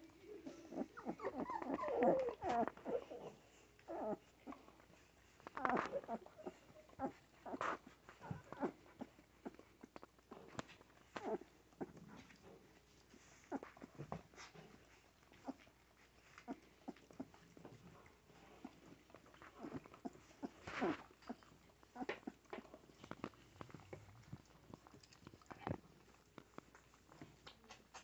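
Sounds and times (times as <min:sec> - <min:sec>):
soft rustling: 0:00.0 - 0:28.0
puppies whimpering and squeaking: 0:00.2 - 0:12.3, 0:13.1 - 0:25.7.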